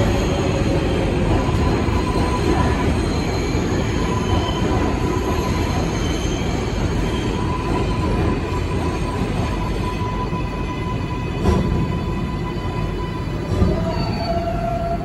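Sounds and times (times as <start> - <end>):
subway train rolling into station: 0.0 - 15.0
train wheel squeal: 0.0 - 15.0.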